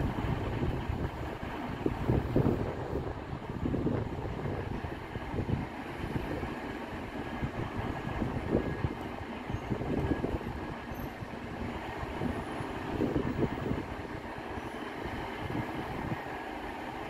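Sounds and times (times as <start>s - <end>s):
diesel train engines rumbling: 0.0s - 17.0s.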